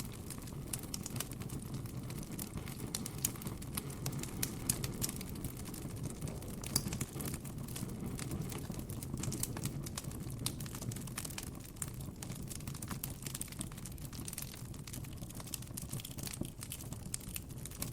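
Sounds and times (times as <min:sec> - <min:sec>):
campfire crackling: 0:00.0 - 0:17.9.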